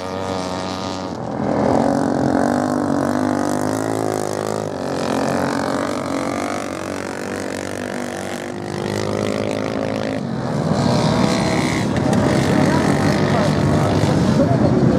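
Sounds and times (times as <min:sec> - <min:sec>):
racing motorcycles passing: 0:00.0 - 0:14.9.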